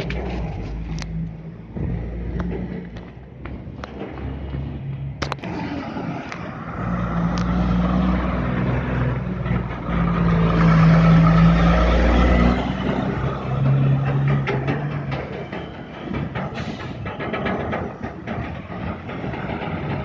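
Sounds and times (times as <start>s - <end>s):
truck diesel engine pulling: 0.0s - 20.0s.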